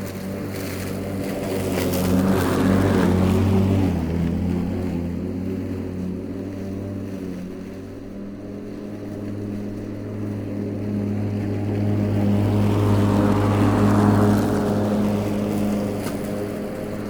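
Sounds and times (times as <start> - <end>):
riding lawnmower engine running: 0.0 - 17.0.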